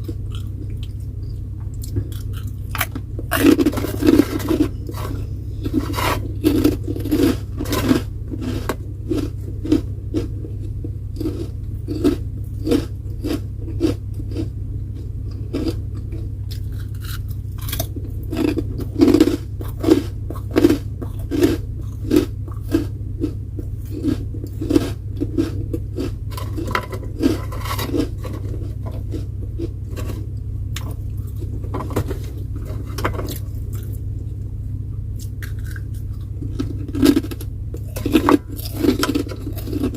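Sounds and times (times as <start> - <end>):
person chewing crunchy food: 0.0 - 39.9
steady low hum: 0.0 - 39.9.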